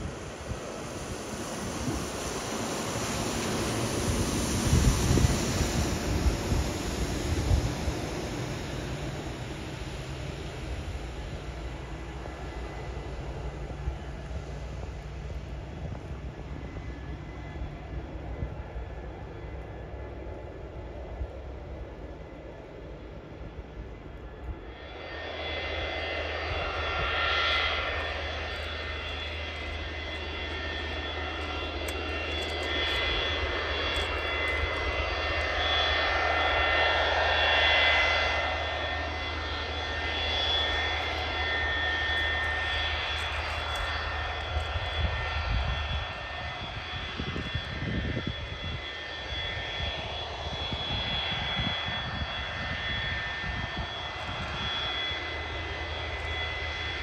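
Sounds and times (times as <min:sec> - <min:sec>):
wind buffeting microphone: 0:00.0 - 0:22.3, 0:25.5 - 0:57.0
jet engines whining and roaring: 0:00.0 - 0:57.0.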